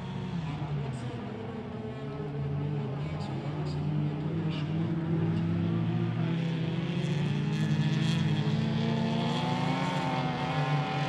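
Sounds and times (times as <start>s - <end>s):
racing car engines revving: 0.0s - 11.0s.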